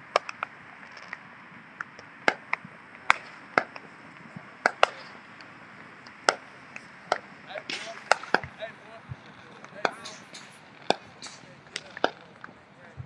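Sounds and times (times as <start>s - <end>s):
fireworks cracking and popping: 0.0s - 13.0s.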